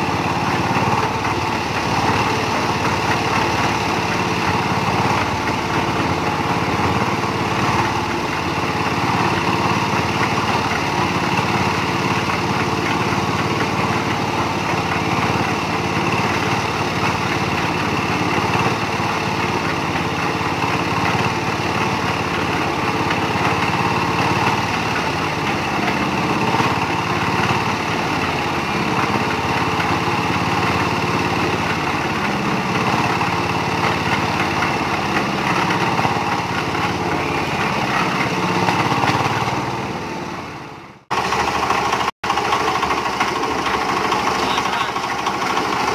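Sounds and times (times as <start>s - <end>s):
concrete mixer engine running: 0.0s - 45.9s.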